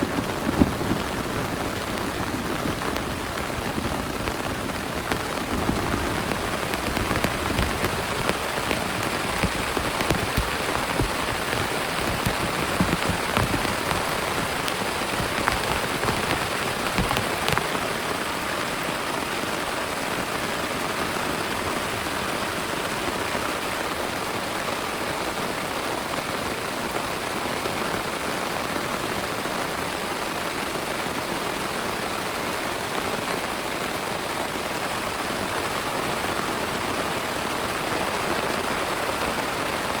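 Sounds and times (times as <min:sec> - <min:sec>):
heavy rain: 0:00.0 - 0:40.0.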